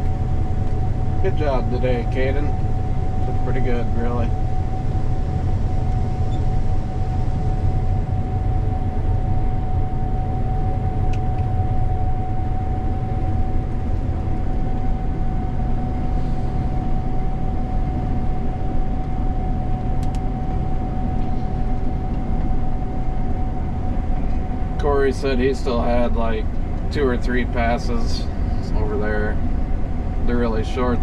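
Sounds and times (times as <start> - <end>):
constant engine whine: 0.0 - 31.0
diesel engine rumbling: 0.0 - 31.0.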